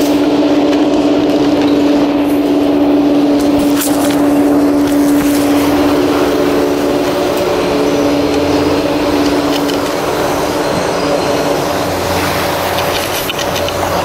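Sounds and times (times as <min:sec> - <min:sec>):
chairlift mechanical hum: 0:00.0 - 0:14.0
even rushing noise: 0:00.0 - 0:14.0.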